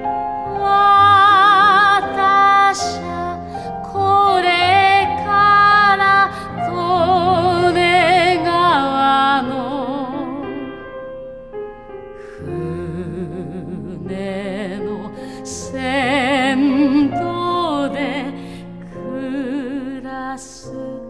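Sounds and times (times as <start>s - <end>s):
slow melody with heavy vibrato: 0.0s - 21.0s
soft accompaniment: 0.0s - 21.0s.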